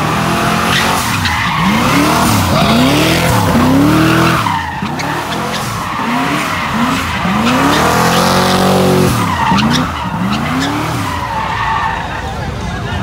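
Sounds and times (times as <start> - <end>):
car engine revving: 0.0 - 12.0
tyres squealing: 0.4 - 12.5.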